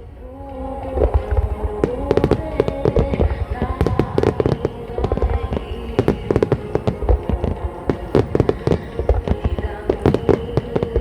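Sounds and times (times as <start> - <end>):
fireworks shells bursting: 0.8 - 11.0.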